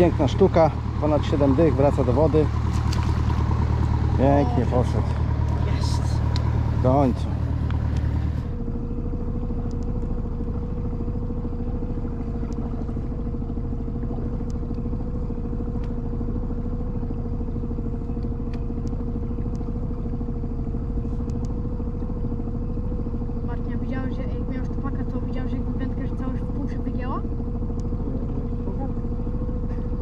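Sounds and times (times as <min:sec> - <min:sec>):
boat motor droning: 0:00.0 - 0:30.0.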